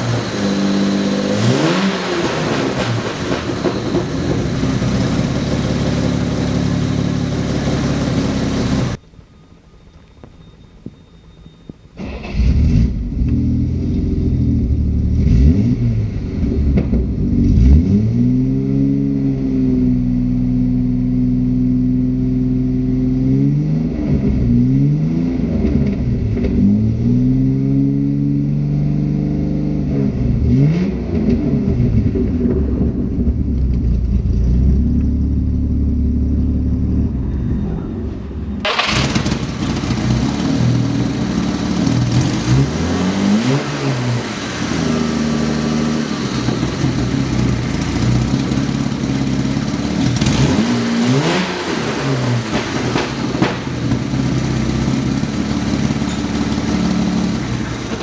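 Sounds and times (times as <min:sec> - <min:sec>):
car engine starting and revving: 0:00.0 - 0:09.0, 0:11.2 - 0:58.0.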